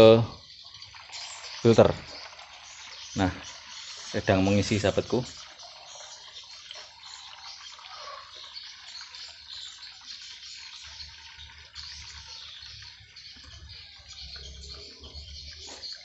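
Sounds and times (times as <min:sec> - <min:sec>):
water rushing through pipes: 0:00.0 - 0:16.0.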